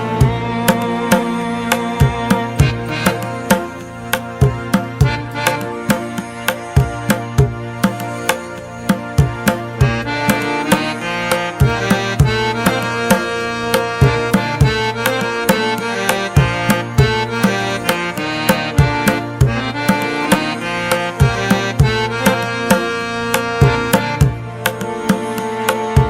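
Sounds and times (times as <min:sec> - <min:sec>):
harmonium held notes: 0:00.0 - 0:26.0
tabla drumming: 0:00.0 - 0:26.0.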